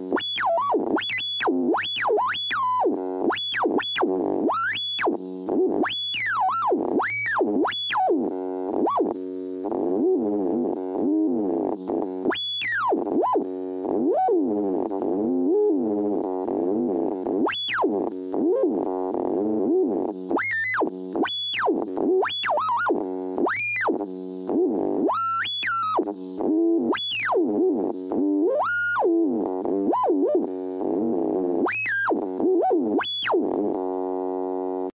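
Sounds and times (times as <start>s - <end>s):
steady buzzing hum: 0.0s - 34.9s.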